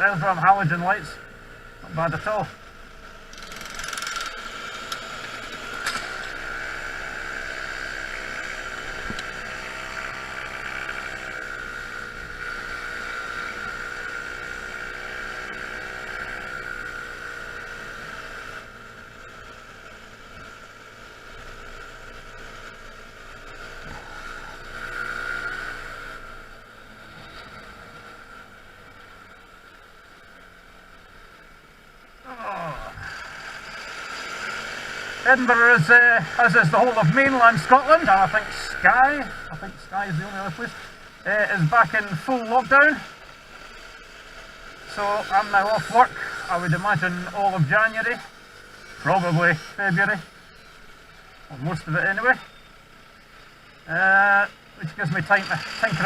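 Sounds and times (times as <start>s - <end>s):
scooter engine running: 0.0s - 56.0s
steady whine: 0.0s - 56.0s.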